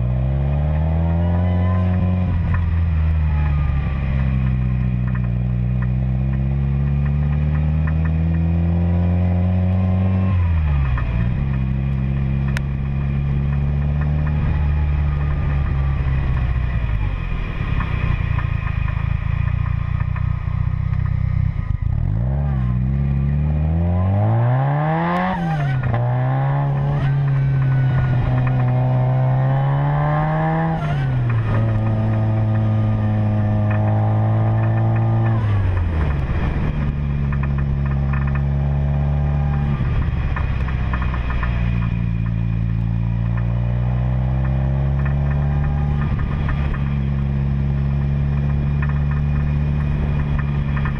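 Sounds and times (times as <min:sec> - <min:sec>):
car engine accelerating and shifting: 0:00.0 - 0:50.9.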